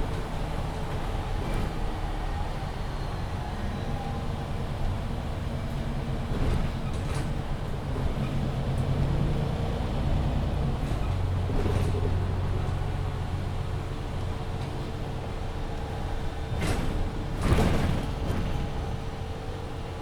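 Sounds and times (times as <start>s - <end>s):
bus engine and drivetrain hum: 0.0s - 20.0s.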